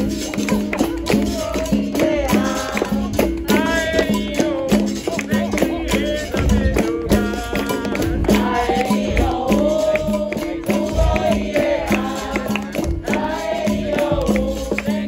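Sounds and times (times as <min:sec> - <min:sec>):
berimbau: 0:00.0 - 0:15.0
pandeiro rhythm: 0:00.0 - 0:15.0
voices singing: 0:00.0 - 0:15.0.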